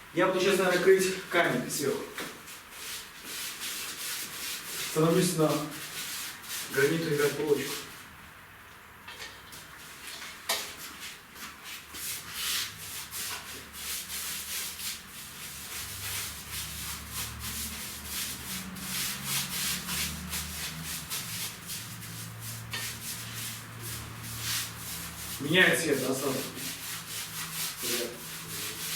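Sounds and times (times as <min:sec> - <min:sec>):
paintbrush scrubbing over brick: 0:02.4 - 0:08.1, 0:09.9 - 0:28.9.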